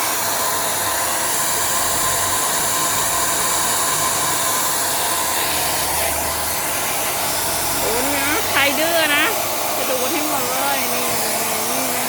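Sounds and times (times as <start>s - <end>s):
vacuum cleaner motor running: 0.0s - 12.0s.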